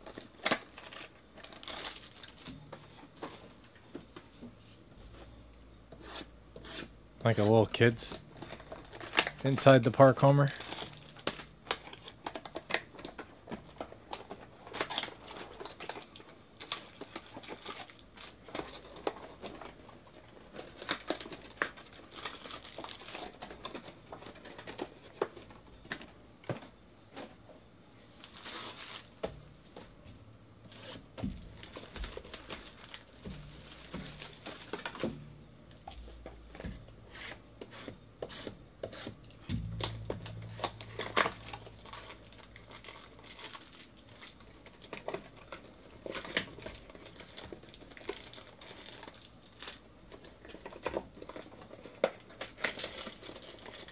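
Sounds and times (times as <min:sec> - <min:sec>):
plastic wrap and cardboard crinkling: 0:00.0 - 0:04.8, 0:07.2 - 0:30.1, 0:30.7 - 0:53.9.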